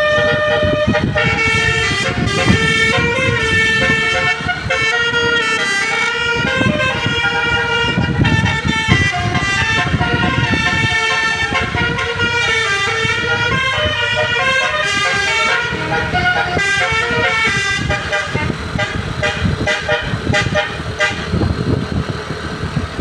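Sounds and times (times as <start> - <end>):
multi-tone musical vehicle horn: 0.0 - 21.5
low engine rumble: 0.0 - 23.0.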